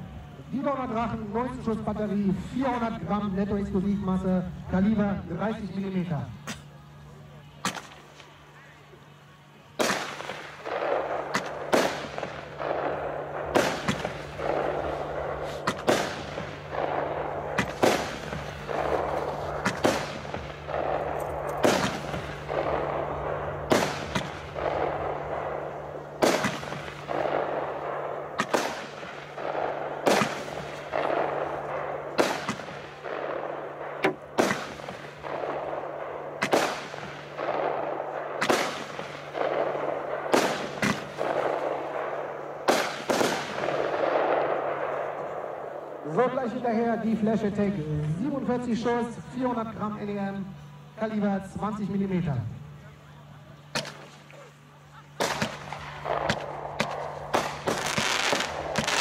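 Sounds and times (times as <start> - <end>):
firework bangs: 7.5 - 50.1, 53.6 - 59.0.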